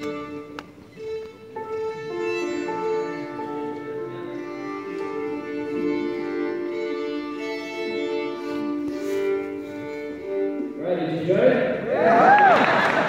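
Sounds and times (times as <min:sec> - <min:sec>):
solo violin bowed slowly: 0:00.0 - 0:11.3.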